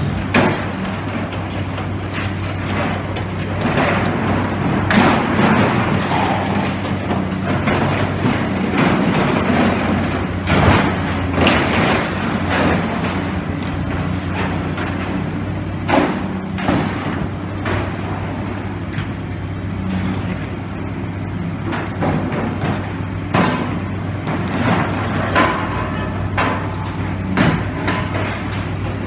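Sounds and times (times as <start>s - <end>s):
excavator diesel engine running: 0.0s - 29.0s
rubble and metal crashing: 0.0s - 29.0s.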